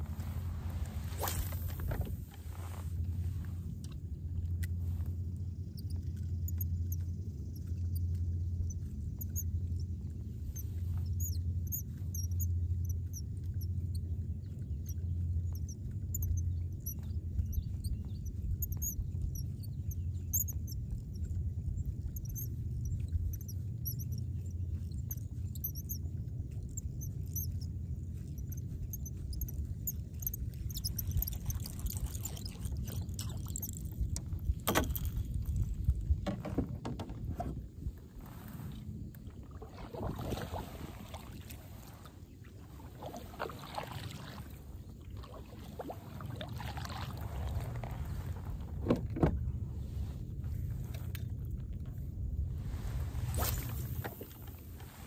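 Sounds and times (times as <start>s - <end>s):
low rumble: 0.0s - 36.3s, 45.9s - 55.0s.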